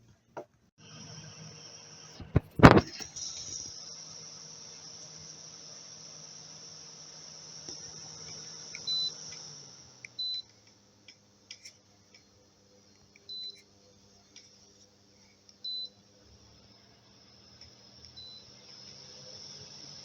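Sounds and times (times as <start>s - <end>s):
fan motor hum and air hiss: 0.8s - 20.0s.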